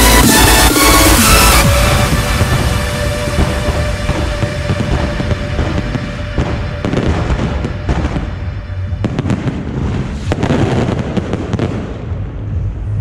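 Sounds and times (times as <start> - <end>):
fireworks bursting with bangs: 0.0 - 13.0
fireworks crackling: 0.0 - 13.0.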